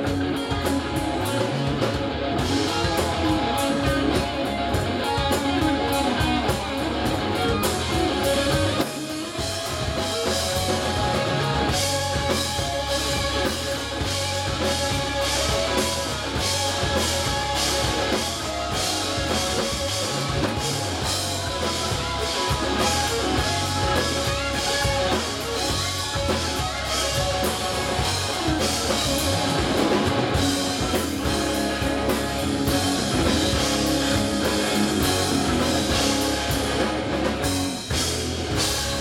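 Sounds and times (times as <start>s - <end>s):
bass guitar: 0.0s - 39.0s
drum kit: 0.0s - 39.0s
electric guitars: 0.0s - 39.0s.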